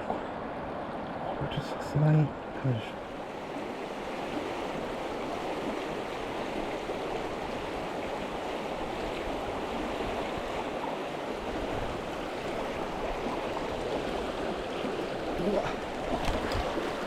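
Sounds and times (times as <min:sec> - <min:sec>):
mountain river rushing: 0:00.0 - 0:17.0.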